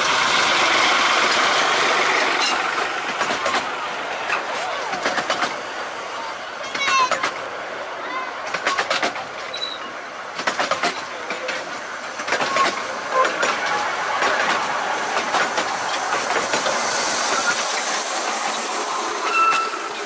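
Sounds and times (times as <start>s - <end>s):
hiss of wheels on track: 0.0s - 20.0s
wheels clicking over rail joints: 0.0s - 20.0s.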